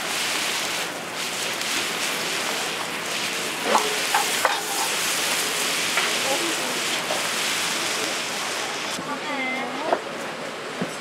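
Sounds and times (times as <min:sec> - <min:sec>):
stew sizzling and bubbling: 0:00.0 - 0:09.0.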